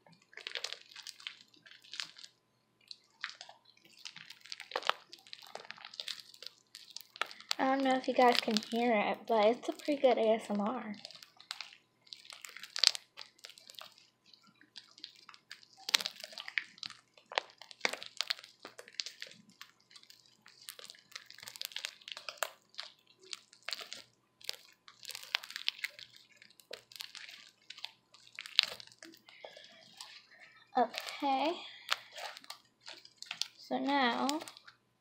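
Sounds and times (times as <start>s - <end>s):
slime squelching being kneaded: 0.0s - 35.0s.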